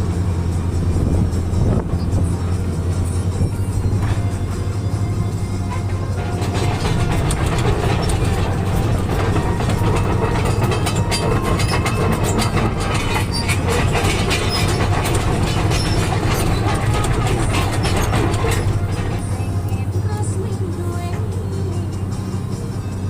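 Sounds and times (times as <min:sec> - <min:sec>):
excavator diesel engine running: 0:00.0 - 0:23.0
rapid clattering and knocking: 0:01.3 - 0:21.5.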